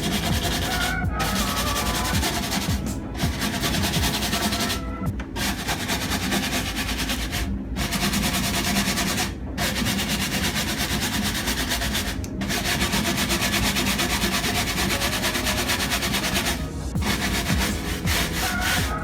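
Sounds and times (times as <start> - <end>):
rapid scrubbing on a surface: 0.0 - 19.0.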